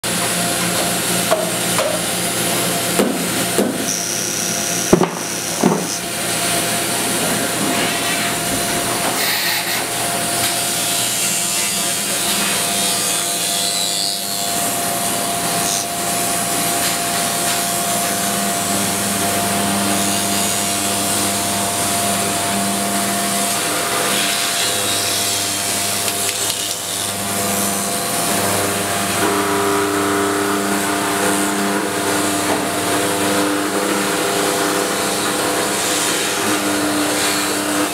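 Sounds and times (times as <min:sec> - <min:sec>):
milling machine cutting wood: 0:00.1 - 0:37.9.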